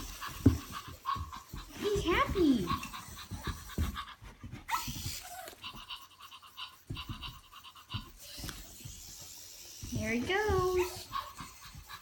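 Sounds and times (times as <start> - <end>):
toy electric motors whirring: 0.0 - 12.0.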